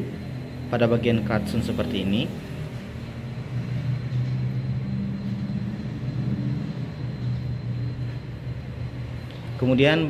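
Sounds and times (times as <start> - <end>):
low mechanical engine drone: 0.0 - 10.0.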